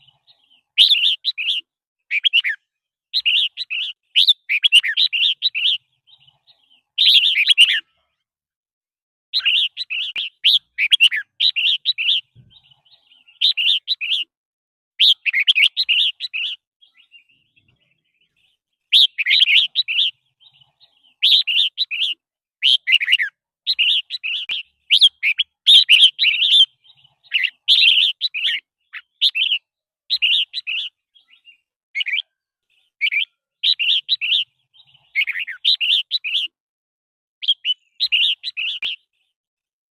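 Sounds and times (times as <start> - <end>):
bird singing warbled phrases: 0.0 - 8.2, 9.3 - 14.4, 15.0 - 36.6, 37.4 - 39.4.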